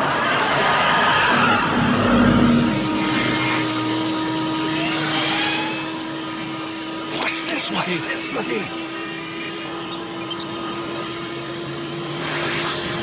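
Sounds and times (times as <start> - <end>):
car engine revving: 0.8 - 13.0
steady hum: 1.3 - 13.0.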